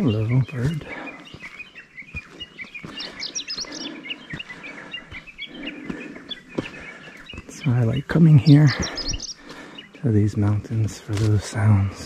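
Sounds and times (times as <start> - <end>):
wild birds chirping: 0.0 - 12.0.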